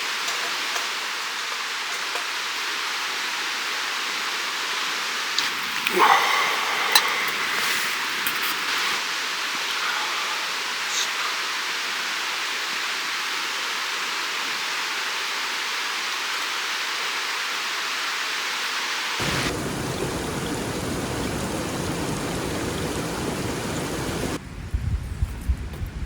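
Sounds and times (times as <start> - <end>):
rushing water: 0.0 - 24.4.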